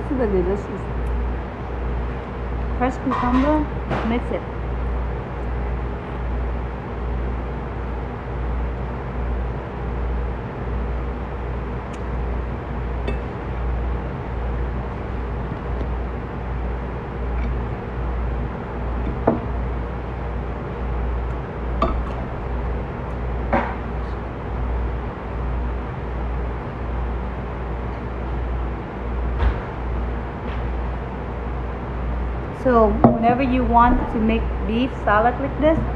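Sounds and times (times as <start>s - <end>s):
low background rumble: 0.0s - 35.9s.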